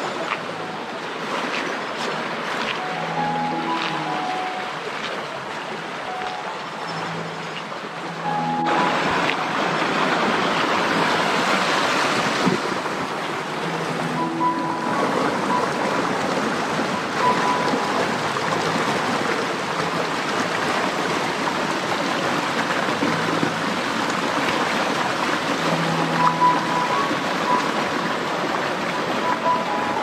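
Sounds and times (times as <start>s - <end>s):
stream running over rocks: 0.0s - 30.0s.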